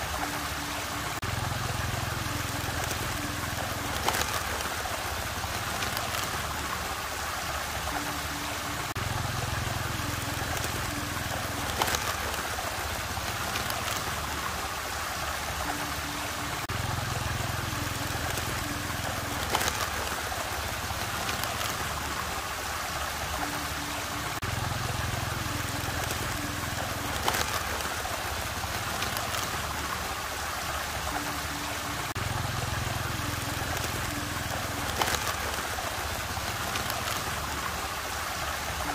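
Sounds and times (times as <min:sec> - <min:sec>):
water swirling in whirlpool: 0:00.0 - 0:38.9.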